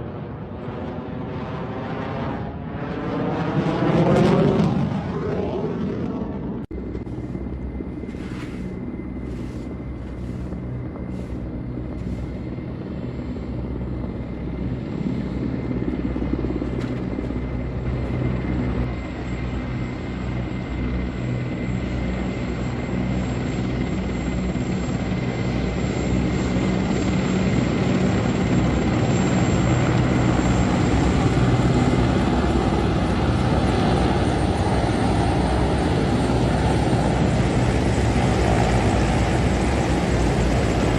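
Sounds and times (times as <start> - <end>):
aircraft engine and rotor drone: 0.0 - 40.9.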